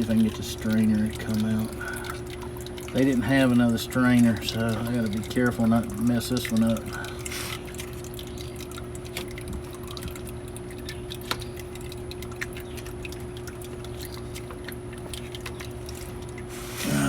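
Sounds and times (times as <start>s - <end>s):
oil dripping into a pan: 0.0s - 16.7s
steady low hum: 0.0s - 17.0s.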